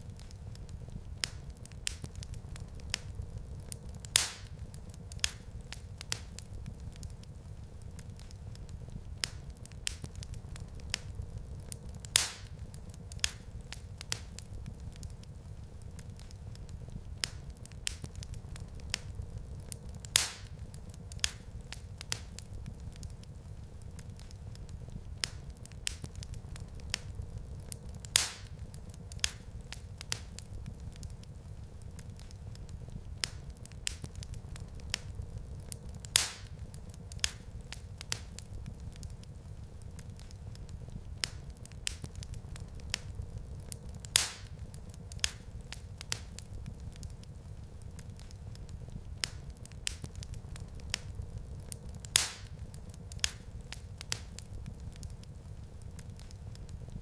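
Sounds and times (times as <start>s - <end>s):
fire pops: 0.0s - 57.0s
wood fire crackling: 0.0s - 57.0s.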